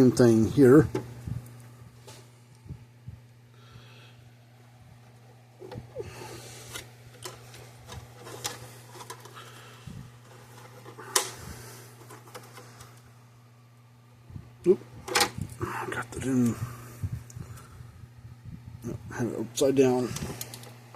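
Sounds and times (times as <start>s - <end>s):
low electrical hum: 0.0s - 20.9s.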